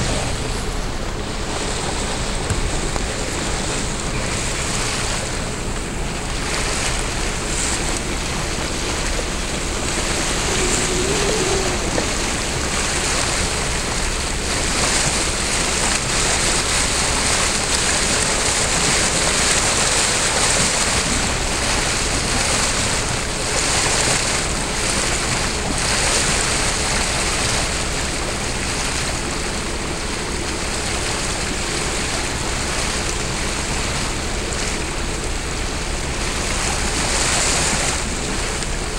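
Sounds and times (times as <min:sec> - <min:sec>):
turbulent water rushing and hissing: 0:00.0 - 0:38.9
wind buffeting microphone: 0:00.0 - 0:38.9.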